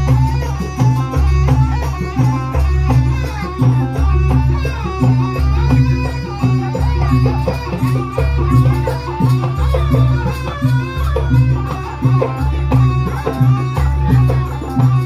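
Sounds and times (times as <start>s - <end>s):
traditional percussion music: 0.0s - 15.0s
wavering melody: 0.0s - 15.0s.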